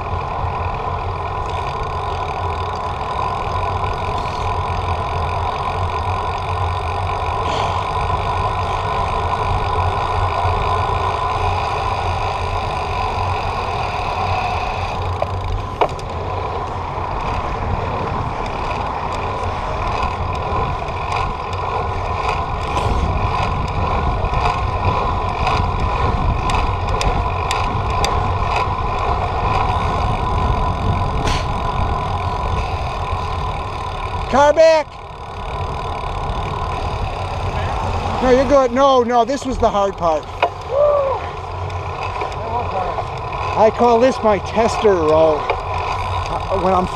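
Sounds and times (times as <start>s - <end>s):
bicycle road and wind noise: 0.0s - 46.9s.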